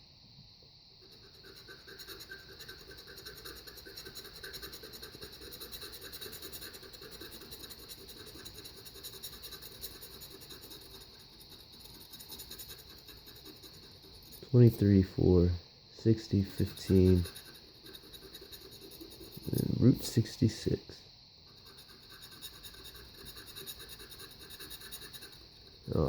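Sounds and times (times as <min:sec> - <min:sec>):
knife scraping lottery ticket: 0:01.0 - 0:15.0, 0:16.3 - 0:19.8, 0:21.5 - 0:26.0.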